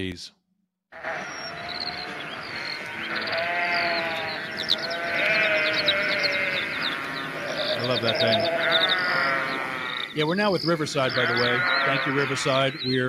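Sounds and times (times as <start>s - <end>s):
sheep bleating: 1.0s - 10.3s, 10.9s - 12.8s.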